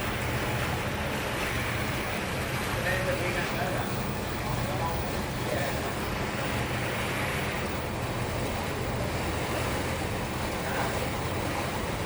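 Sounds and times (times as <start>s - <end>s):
sea noise: 0.0s - 12.0s
wind: 0.0s - 12.0s.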